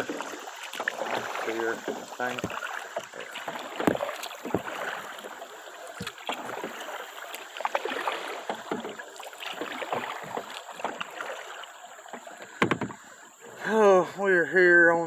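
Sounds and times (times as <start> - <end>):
paddle strokes splashing: 0.0 - 14.8
moving water wash: 0.0 - 15.0.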